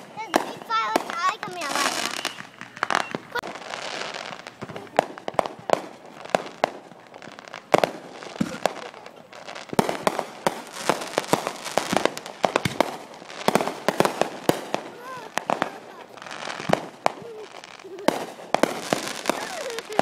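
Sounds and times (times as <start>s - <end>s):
fireworks bangs and pops: 0.0s - 20.0s
fireworks hissing crackle: 0.0s - 20.0s.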